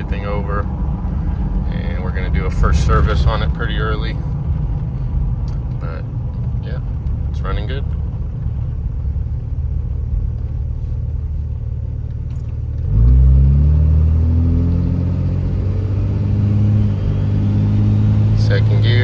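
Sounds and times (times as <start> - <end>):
diesel truck engine accelerating: 0.0 - 19.0.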